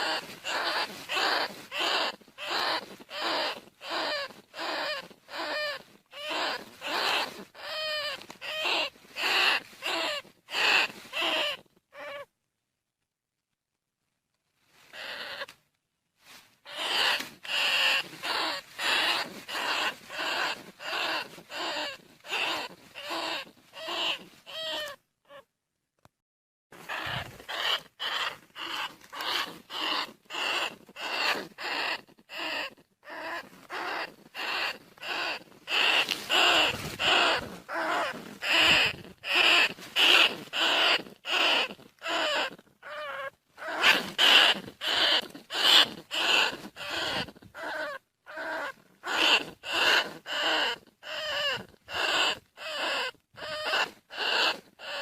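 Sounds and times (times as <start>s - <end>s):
rat squealing: 0.0s - 12.3s, 14.9s - 15.5s, 16.6s - 25.5s, 26.8s - 55.0s.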